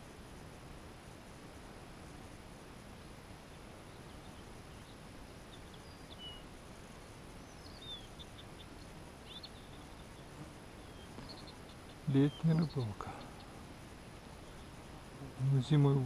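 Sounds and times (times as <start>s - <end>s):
faint birds chirping: 0.0s - 16.0s
steady background hiss: 0.0s - 16.0s.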